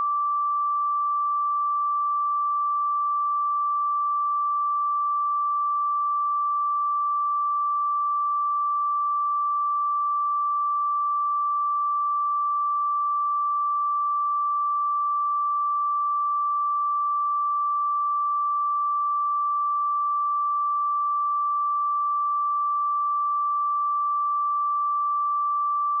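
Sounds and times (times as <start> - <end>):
sine wave test tone: 0.0 - 26.0.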